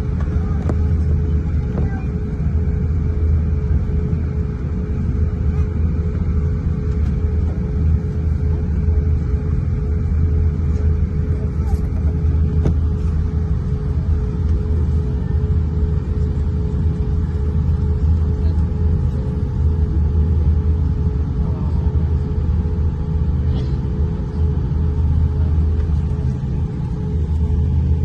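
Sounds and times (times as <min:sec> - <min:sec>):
aircraft cabin low rumble: 0:00.0 - 0:28.0
mid-pitched hum: 0:00.0 - 0:28.0.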